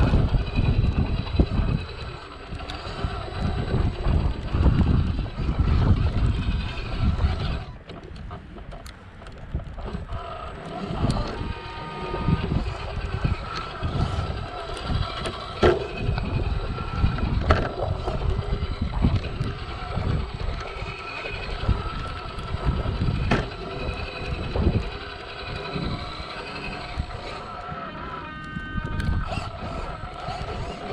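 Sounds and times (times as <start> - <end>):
toy car motor whining: 0.0 - 8.2, 9.3 - 30.9
gusty low rumble: 0.0 - 8.7, 9.3 - 27.8, 28.6 - 30.9.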